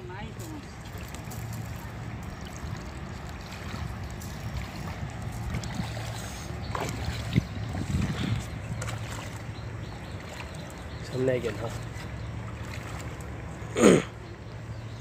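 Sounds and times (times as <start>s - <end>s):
feet wading through water: 0.3s - 14.7s.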